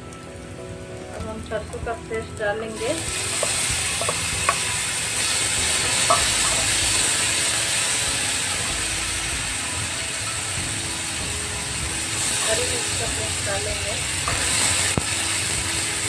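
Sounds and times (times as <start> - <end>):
paste sizzling in hot oil: 0.8 - 16.0.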